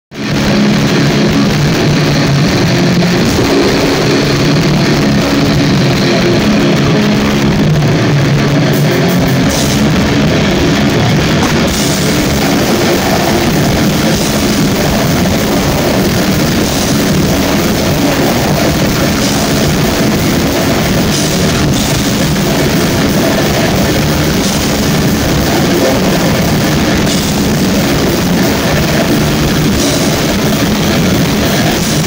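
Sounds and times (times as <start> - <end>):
distorted electric guitar: 0.1 - 32.0
drums: 0.1 - 32.0.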